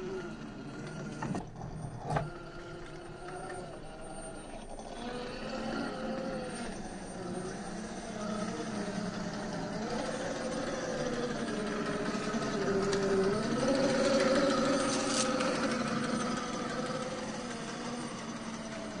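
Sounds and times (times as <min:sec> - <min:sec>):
rc truck motor whining: 0:00.0 - 0:19.0.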